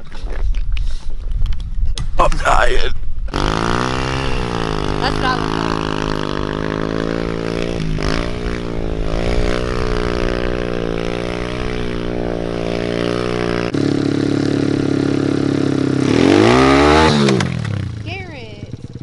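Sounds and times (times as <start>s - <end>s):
pit bike engine revving: 3.3s - 19.0s.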